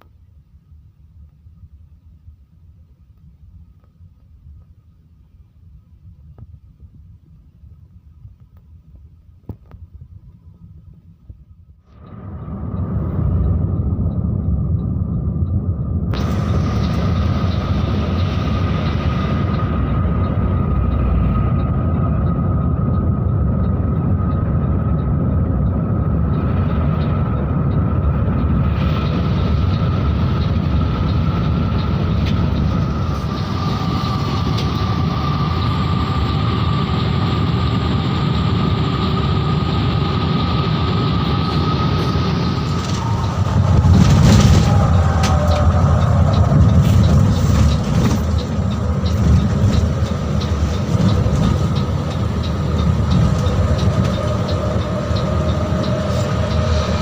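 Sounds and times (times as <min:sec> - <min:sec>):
coach engine and road rumble: 0:00.0 - 0:57.0
thin steady whine: 0:00.0 - 0:57.0.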